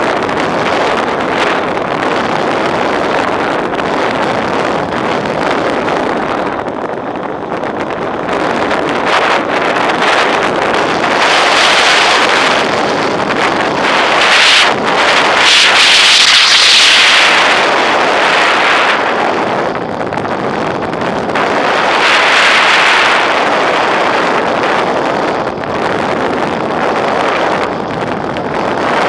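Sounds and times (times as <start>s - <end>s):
rushing wind: 0.0s - 29.0s.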